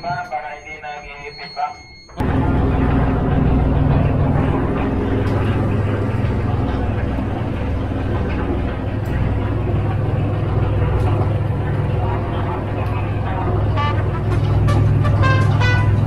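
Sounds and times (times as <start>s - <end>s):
diesel engine low drone: 2.2s - 16.0s.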